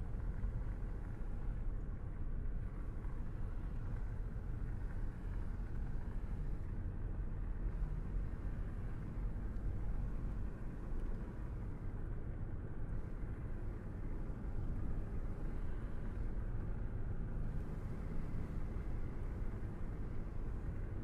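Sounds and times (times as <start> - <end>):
car tyre and engine rumble: 0.0 - 21.0.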